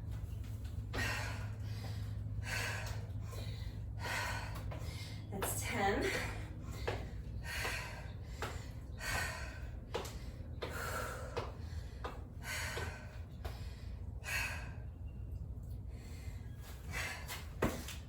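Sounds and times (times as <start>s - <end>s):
woman breathing hard: 0.8s - 5.4s, 6.0s - 15.2s, 15.8s - 18.0s.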